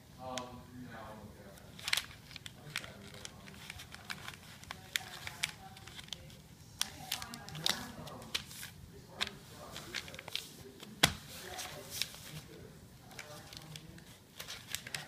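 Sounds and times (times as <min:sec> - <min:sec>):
paper crinkling and rustling: 0:01.5 - 0:15.0.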